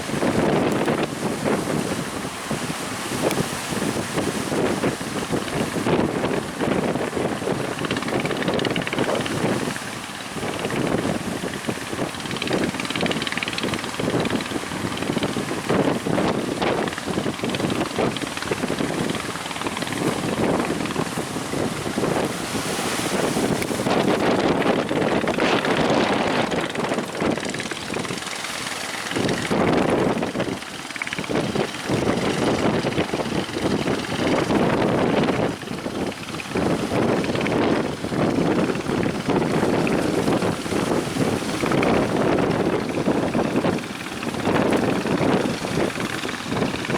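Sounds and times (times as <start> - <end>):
boat engine running: 0.0 - 46.9
wind buffeting microphone: 0.0 - 46.9.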